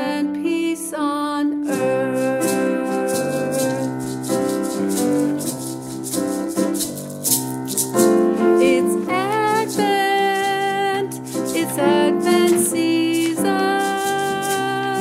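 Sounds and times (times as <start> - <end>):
person singing: 0.0 - 5.7, 8.3 - 15.0
held guitar or keyboard chords: 1.7 - 15.0
maraca shaken in rhythm: 1.7 - 15.0.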